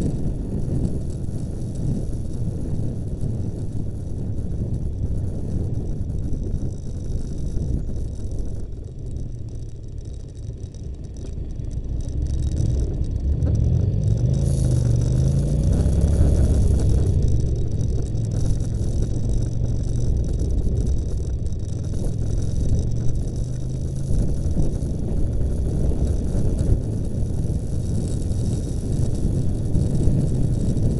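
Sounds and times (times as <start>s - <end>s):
road noise inside vehicle: 0.0s - 30.9s
vehicle engine accelerating: 0.0s - 30.9s.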